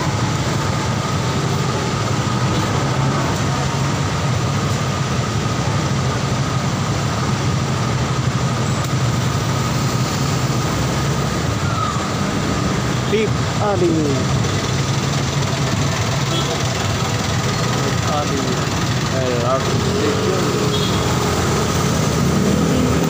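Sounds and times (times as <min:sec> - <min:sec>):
slow street traffic engines: 0:00.0 - 0:23.0.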